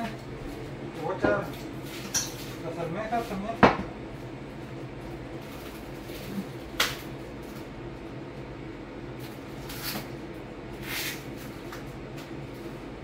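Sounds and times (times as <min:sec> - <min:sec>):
appliance hum: 0:00.0 - 0:13.0.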